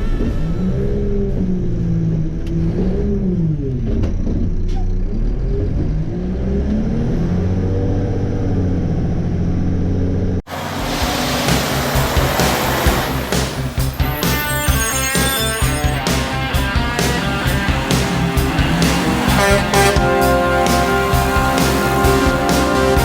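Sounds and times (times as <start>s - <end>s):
diesel truck engine revving: 0.2s - 14.6s, 15.8s - 23.0s.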